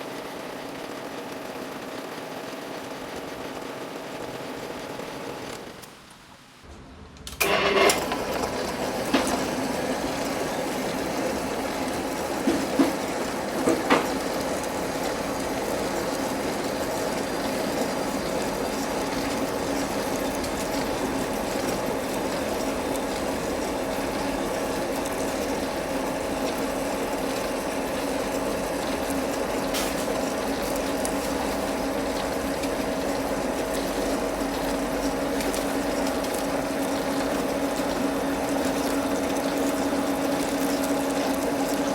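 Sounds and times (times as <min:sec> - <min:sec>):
metal lathe running: 0:07.4 - 0:41.9.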